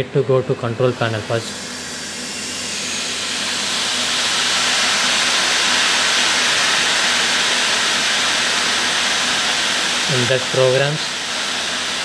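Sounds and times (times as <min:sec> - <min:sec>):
rushing air hiss: 0:00.9 - 0:12.0.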